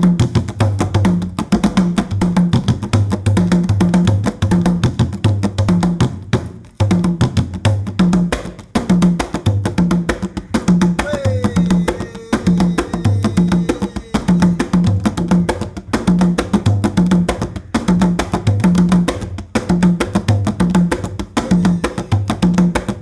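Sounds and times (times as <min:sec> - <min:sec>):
fast drum music: 0:00.0 - 0:23.0.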